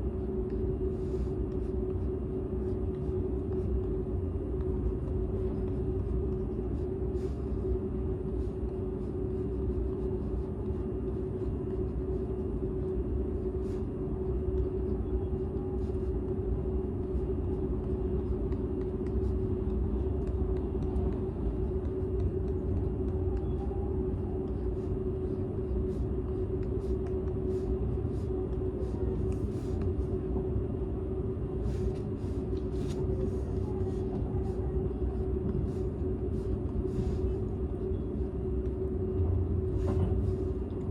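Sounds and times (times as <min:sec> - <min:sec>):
constant hum: 0:00.0 - 0:40.9.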